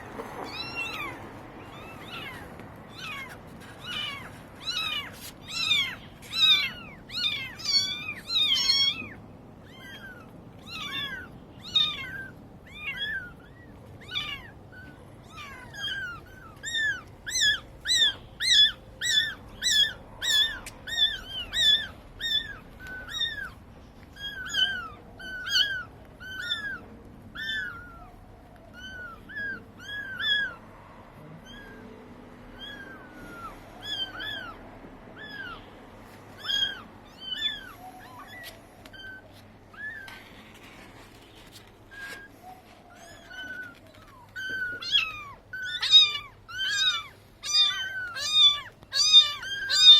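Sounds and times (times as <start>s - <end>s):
seagulls calling: 0.0s - 30.7s, 32.6s - 49.9s.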